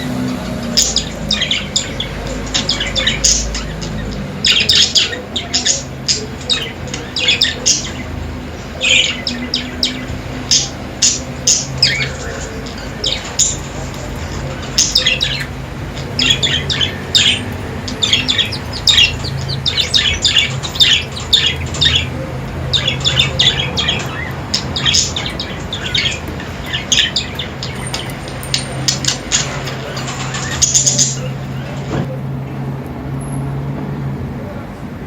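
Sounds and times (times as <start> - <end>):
budgerigars chirping: 0.0 - 32.0.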